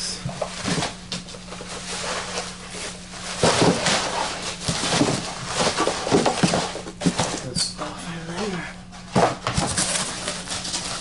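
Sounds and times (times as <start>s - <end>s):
packing paper rustling in box: 0.4s - 7.6s, 8.3s - 11.0s.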